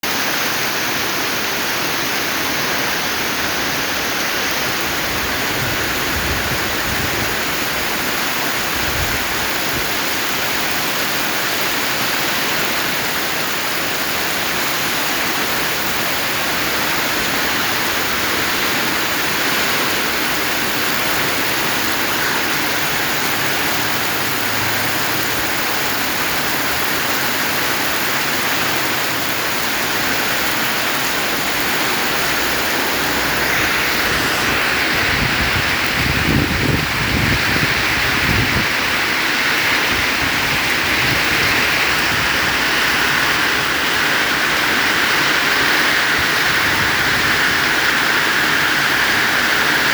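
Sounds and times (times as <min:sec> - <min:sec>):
heavy rain pouring: 0:00.0 - 0:49.9
strong wind: 0:00.0 - 0:49.9.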